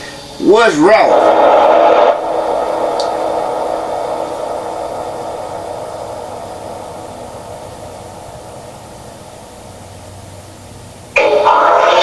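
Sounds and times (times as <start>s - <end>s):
electronic static hiss: 0.0s - 12.0s.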